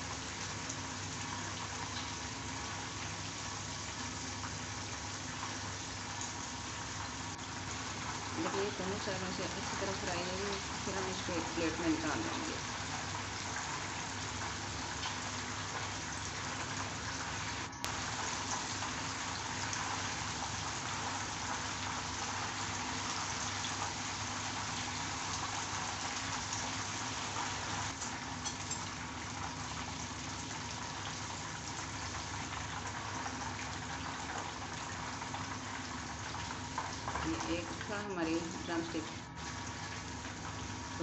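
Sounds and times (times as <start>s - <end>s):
chicken deep-frying in oil: 0.0s - 41.0s.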